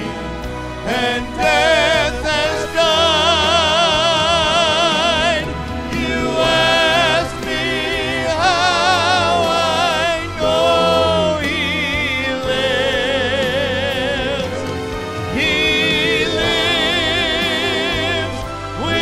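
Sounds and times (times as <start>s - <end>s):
instrumental accompaniment: 0.0s - 19.0s
person singing with vibrato: 0.8s - 19.0s.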